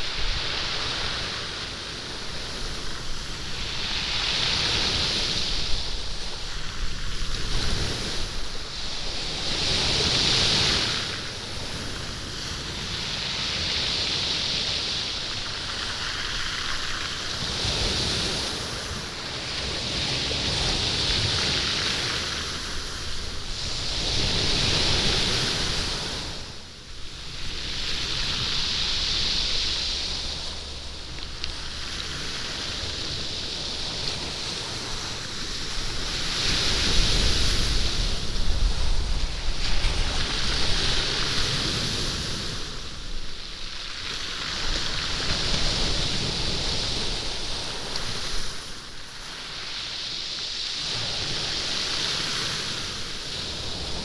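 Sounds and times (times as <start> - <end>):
waves washing over stony beach: 0.0 - 54.0.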